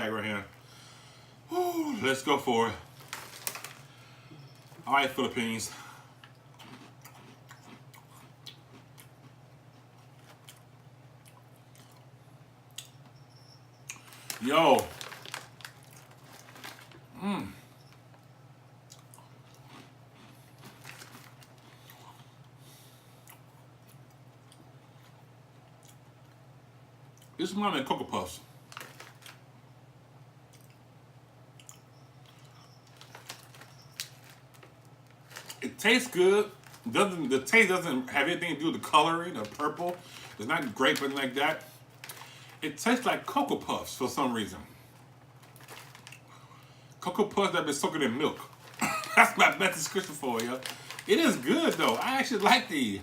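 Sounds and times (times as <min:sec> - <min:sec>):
low steady hum: 0:00.0 - 0:53.0
chewing crunchy crackers: 0:02.4 - 0:13.1, 0:13.8 - 0:26.5, 0:28.6 - 0:29.5, 0:30.4 - 0:30.9, 0:31.5 - 0:37.9, 0:38.8 - 0:43.3, 0:44.8 - 0:47.1, 0:47.8 - 0:53.0.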